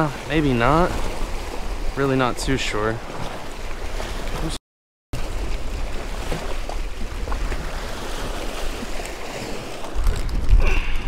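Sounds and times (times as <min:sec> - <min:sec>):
waves splashing against boulders: 0:00.0 - 0:04.6, 0:05.2 - 0:11.0.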